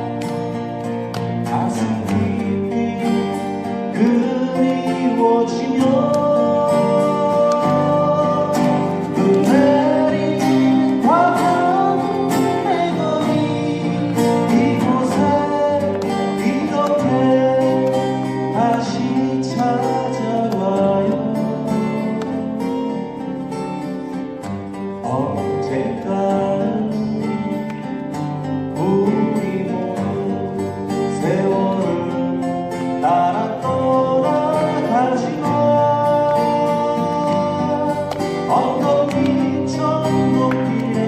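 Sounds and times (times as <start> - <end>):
strummed guitar chords: 0.0 - 41.0.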